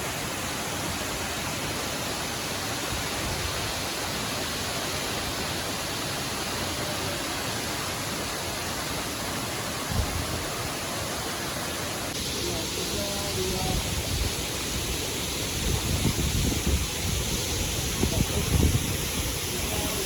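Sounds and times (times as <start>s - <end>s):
waterfall rushing roar: 0.0s - 20.0s.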